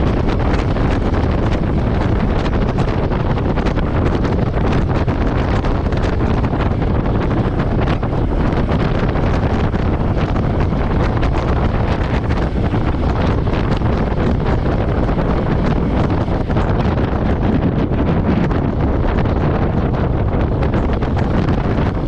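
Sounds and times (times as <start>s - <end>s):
motorcycle engine running: 0.0s - 22.0s
wind on microphone: 0.0s - 22.0s.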